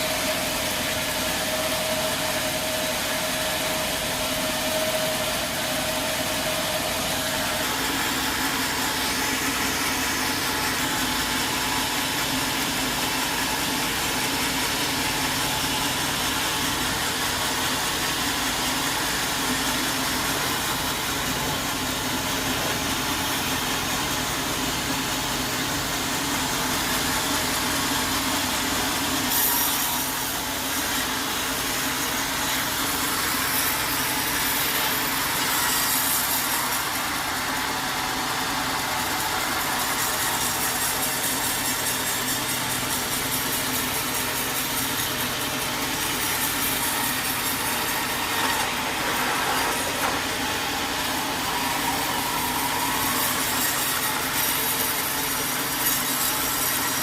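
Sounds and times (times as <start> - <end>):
saw cutting through wood: 0.0 - 57.0.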